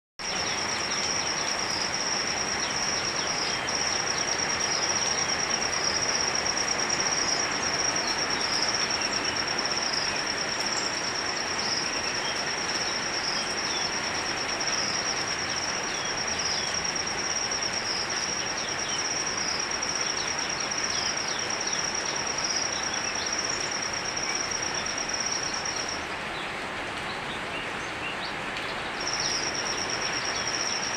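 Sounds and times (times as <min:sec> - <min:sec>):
steady rain falling: 0:00.2 - 0:30.9.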